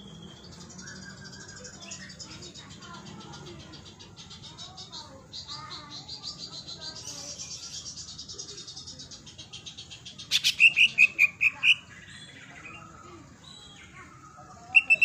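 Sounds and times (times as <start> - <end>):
bird singing trills and notes: 0.0 - 15.0.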